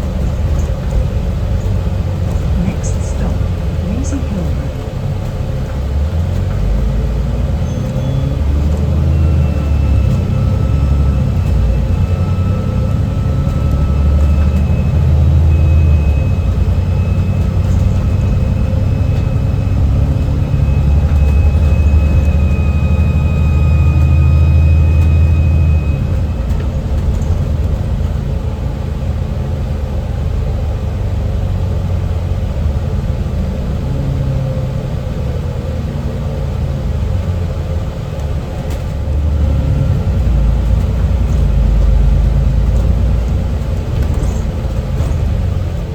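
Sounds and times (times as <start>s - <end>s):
bus diesel engine pulling: 0.0s - 45.9s.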